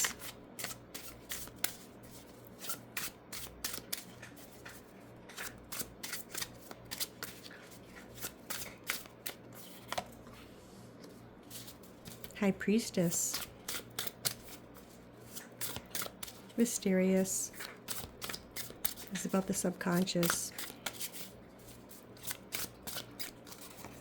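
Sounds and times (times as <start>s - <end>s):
cards being shuffled: 0.0s - 10.2s, 11.5s - 12.4s, 13.3s - 16.7s, 17.5s - 24.0s.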